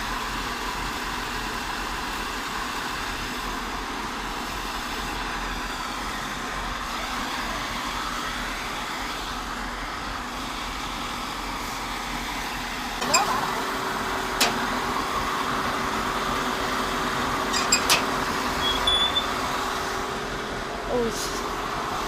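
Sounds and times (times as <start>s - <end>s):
diesel engine running steadily: 0.0s - 22.0s.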